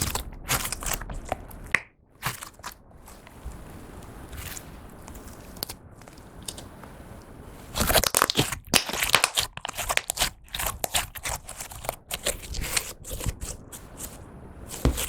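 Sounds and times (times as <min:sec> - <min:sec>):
slime squished by hand: 0:00.0 - 0:06.7, 0:07.6 - 0:15.0.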